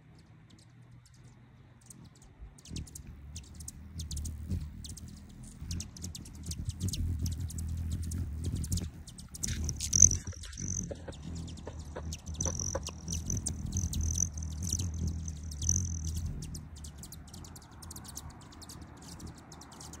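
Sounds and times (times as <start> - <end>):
hummingbird wings humming: 0.2 - 20.0.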